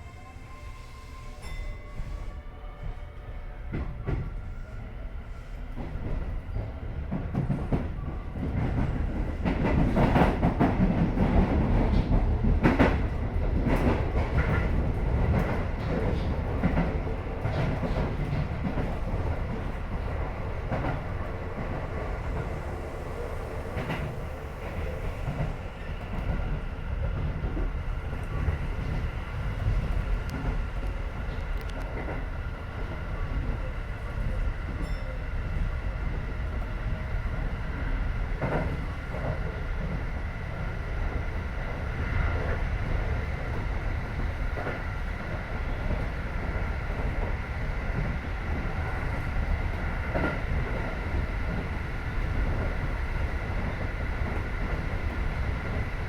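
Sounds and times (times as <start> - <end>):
clickety-clack from rail joints: 3.6 - 56.0.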